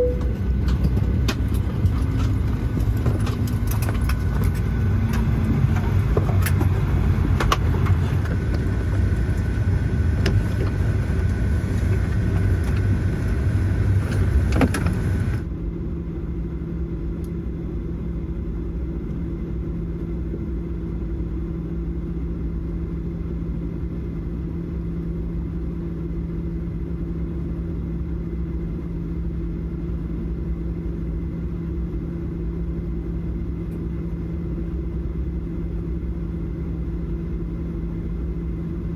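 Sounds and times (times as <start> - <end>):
airliner cabin rumble with rattles: 0.0 - 38.9
steady hum with two low tones: 0.0 - 38.9.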